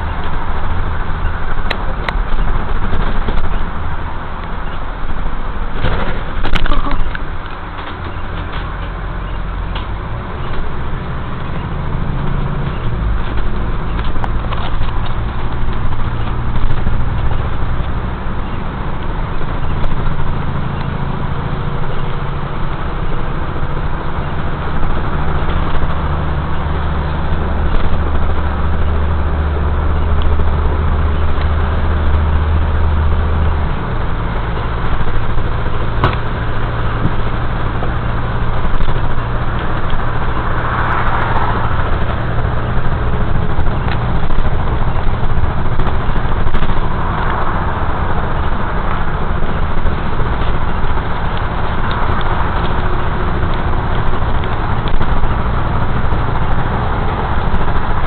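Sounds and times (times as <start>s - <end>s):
noisy rumble: 0.0s - 58.0s
vehicle engine running: 0.0s - 58.0s.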